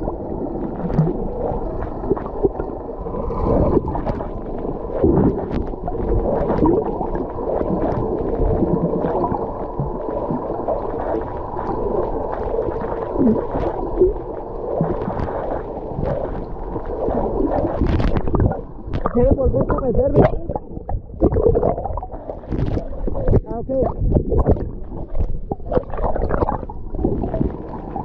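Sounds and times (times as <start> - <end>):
underwater water gurgling: 0.0 - 28.0.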